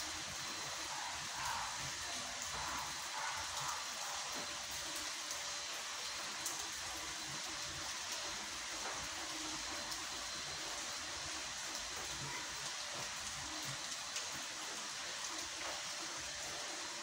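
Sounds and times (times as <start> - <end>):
rain on wet pavement: 0.0 - 17.0.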